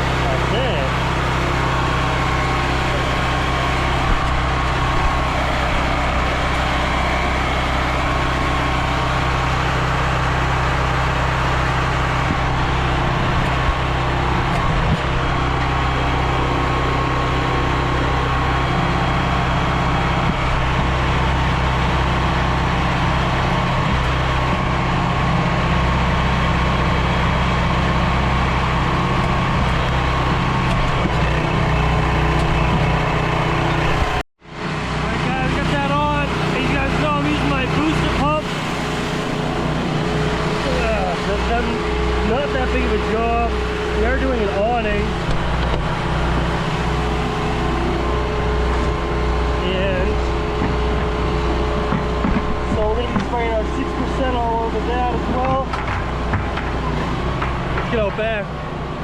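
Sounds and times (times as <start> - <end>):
generator engine humming: 0.0 - 59.0.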